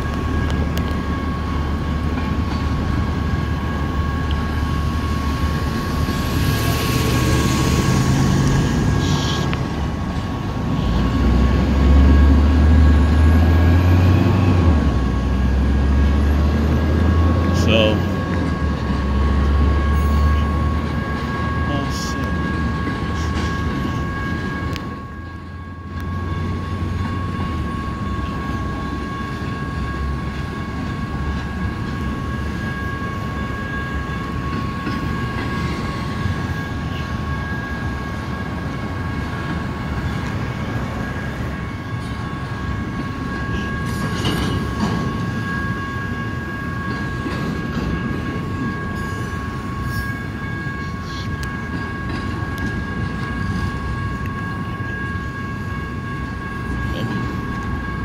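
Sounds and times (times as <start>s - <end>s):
freight train rumbling on rails: 0.0s - 58.0s
high ringing tone: 0.0s - 58.0s
train clatter: 0.0s - 58.0s.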